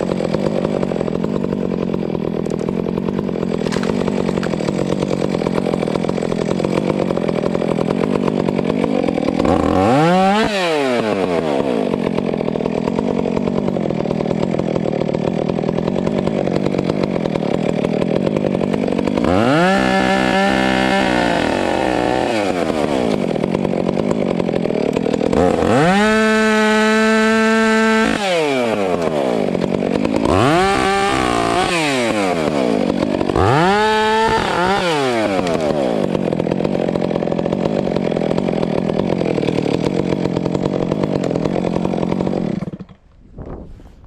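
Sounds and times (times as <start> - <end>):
chainsaw idling and revving: 0.0 - 43.5.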